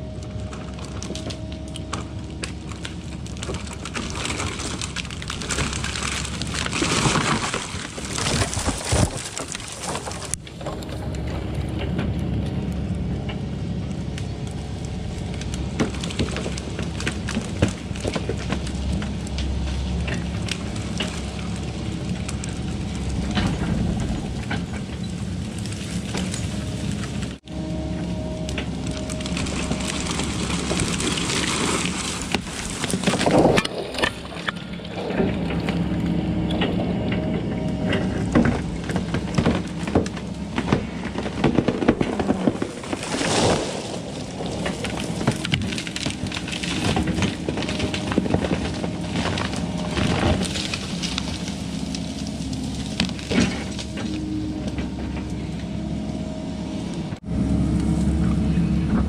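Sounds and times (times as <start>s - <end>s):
excavator diesel engine running: 0.0s - 43.1s, 43.7s - 59.0s
branches cracking and breaking: 0.2s - 59.0s.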